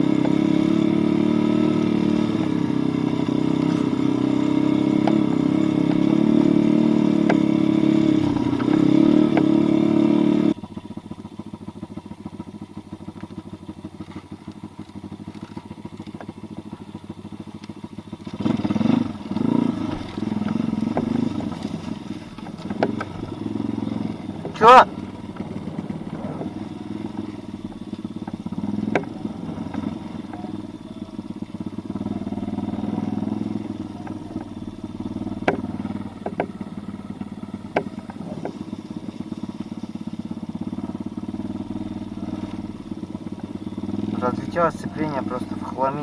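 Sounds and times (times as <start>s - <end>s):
engine fast ticking: 0.0s - 46.0s
pit bike engine revving: 0.0s - 46.0s.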